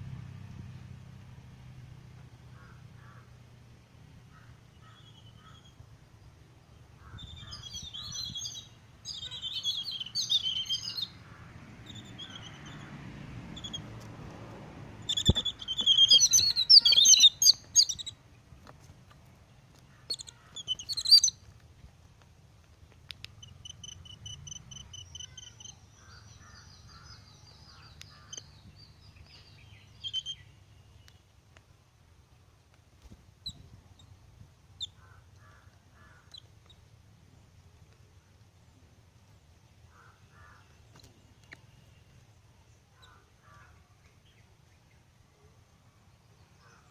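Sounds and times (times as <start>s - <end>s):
small birds chirping: 4.3s - 14.3s, 15.0s - 21.9s, 22.7s - 31.4s, 33.0s - 45.2s.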